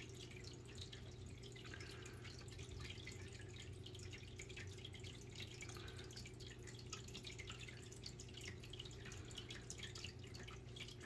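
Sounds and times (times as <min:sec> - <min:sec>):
filter pump hum: 0:00.0 - 0:11.0
water dripping and trickling: 0:00.0 - 0:11.0.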